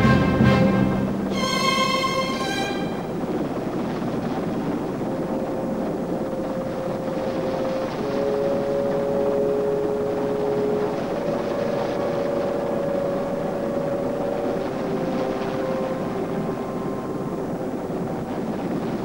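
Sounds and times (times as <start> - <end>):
helicopter hovering overhead: 0.0 - 19.0.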